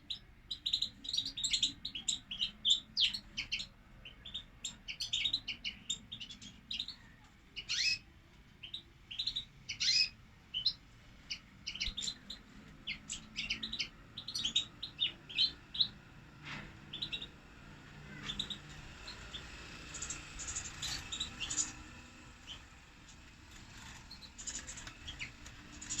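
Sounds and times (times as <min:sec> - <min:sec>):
goldfinches chirping and twittering: 0:00.0 - 0:26.0.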